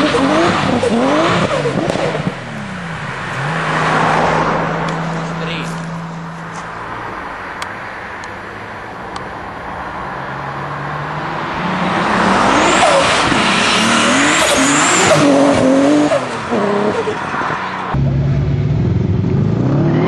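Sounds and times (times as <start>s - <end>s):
drag racing car engines revving: 0.0s - 7.2s, 10.4s - 20.0s.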